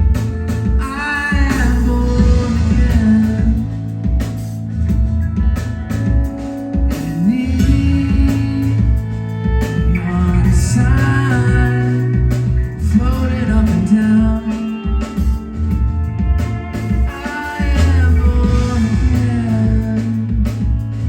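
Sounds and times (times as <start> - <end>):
drums and bass beat: 0.0 - 21.0
guitars playing: 0.0 - 21.0
person singing: 0.6 - 4.2, 6.8 - 15.7, 16.4 - 21.0.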